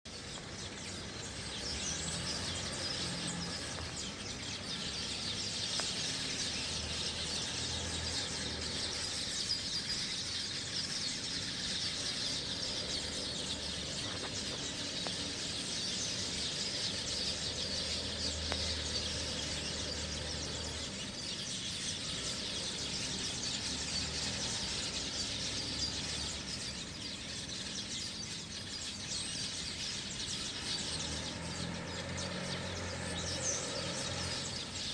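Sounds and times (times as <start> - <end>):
birds chirping chorus: 0.1 - 34.9.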